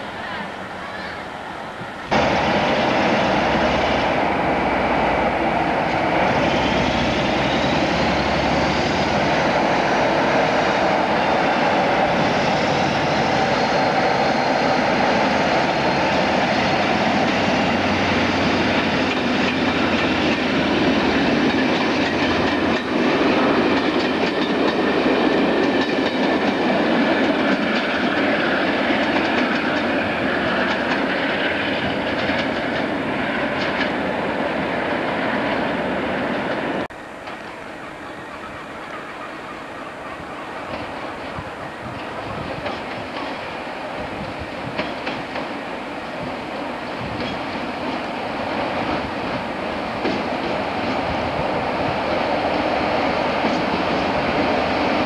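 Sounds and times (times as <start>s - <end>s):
train running: 0.0s - 55.0s.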